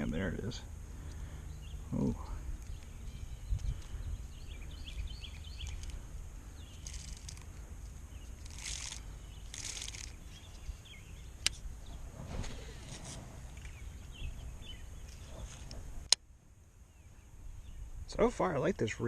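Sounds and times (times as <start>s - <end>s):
steady low rumble: 0.0s - 18.8s
small birds chirping: 0.0s - 19.0s.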